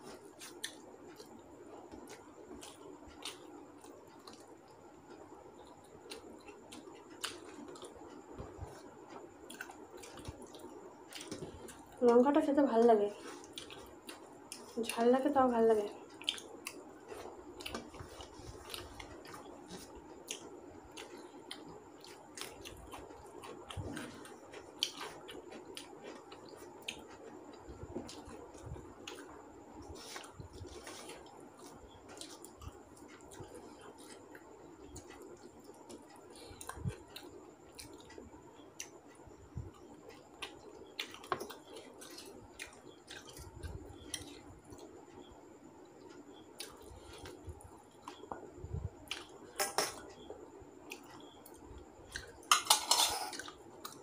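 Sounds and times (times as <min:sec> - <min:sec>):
chewing and mouth clicks: 0:00.0 - 0:12.0, 0:13.2 - 0:15.0, 0:16.1 - 0:45.3, 0:45.9 - 0:54.0
faint steady hum: 0:00.0 - 0:54.0.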